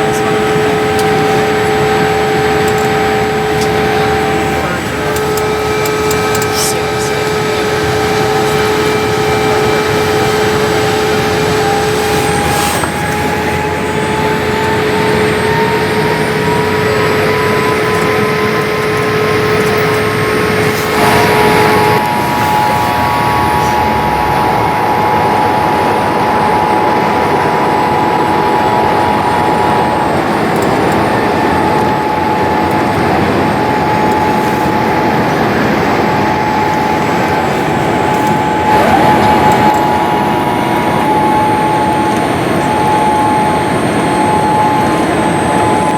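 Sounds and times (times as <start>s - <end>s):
airliner cabin air rush: 0.0s - 45.9s
jet engine tones: 0.0s - 45.9s.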